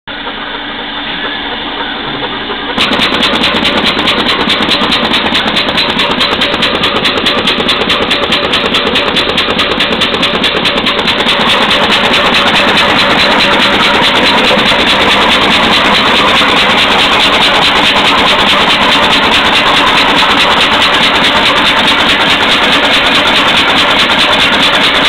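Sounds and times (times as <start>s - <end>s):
sheet feeder machine running: 0.1s - 25.0s.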